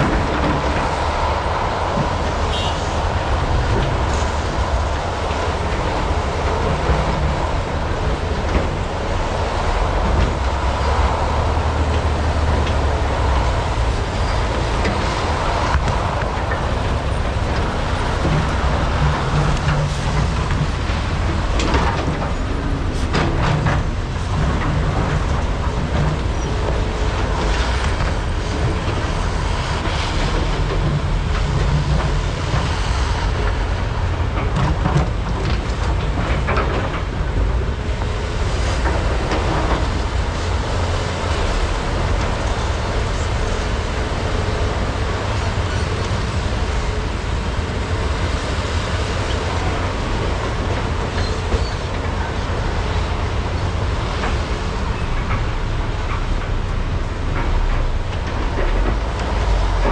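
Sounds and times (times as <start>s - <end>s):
excavator diesel engines running: 0.0s - 59.9s.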